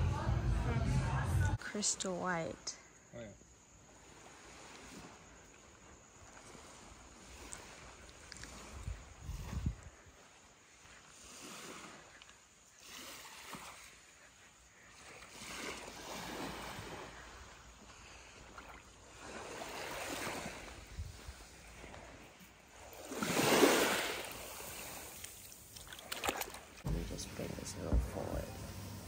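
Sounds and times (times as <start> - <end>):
small waves washing on beach: 3.6 - 28.4.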